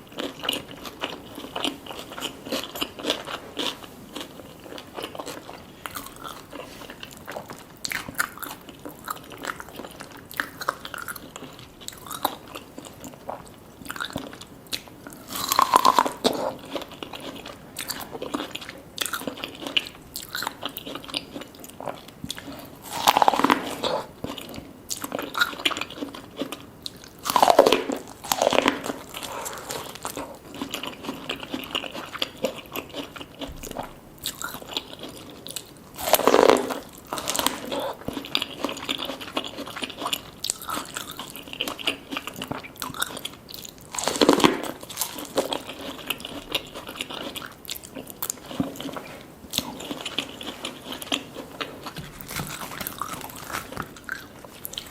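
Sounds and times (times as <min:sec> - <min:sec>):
biting and chewing: 0:00.0 - 0:54.9.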